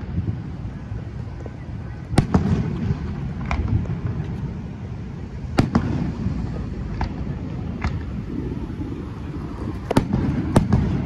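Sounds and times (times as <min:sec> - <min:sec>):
distant fireworks bangs: 0:00.0 - 0:11.0
low rumble: 0:00.0 - 0:11.0.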